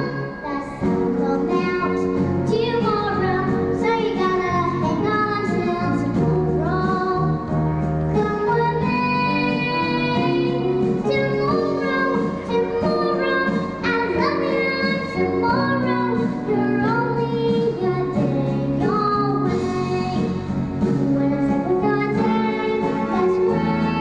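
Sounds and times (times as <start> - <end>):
girl singing into microphone: 0.0 - 24.0
instrumental accompaniment: 0.0 - 24.0.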